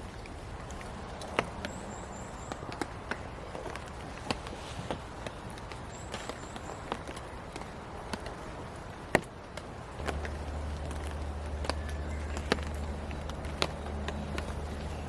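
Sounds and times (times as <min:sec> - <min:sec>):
rain tapping on a tarp: 0:00.0 - 0:15.0
steady low hum: 0:00.0 - 0:15.0.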